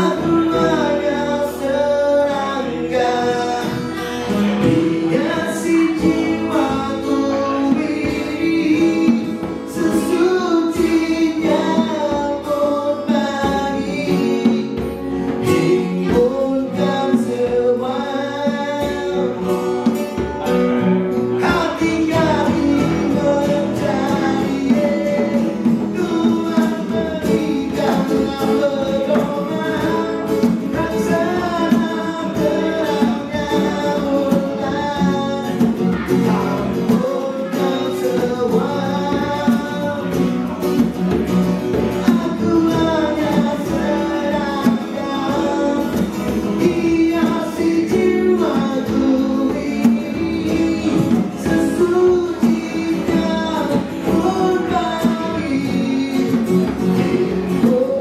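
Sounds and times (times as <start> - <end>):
hand drum beat: 0.0 - 58.0
man singing: 0.0 - 58.0
strummed acoustic guitar: 0.0 - 58.0.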